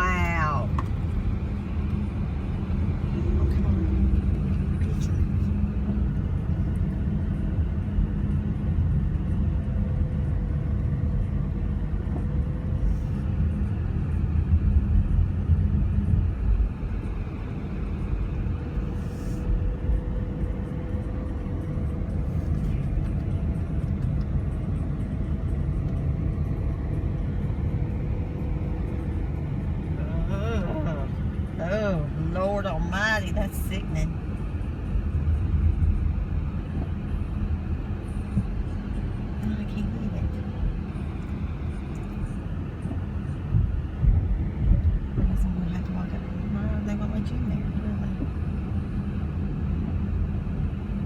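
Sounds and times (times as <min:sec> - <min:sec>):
low vehicle rumble: 0:00.0 - 0:51.0.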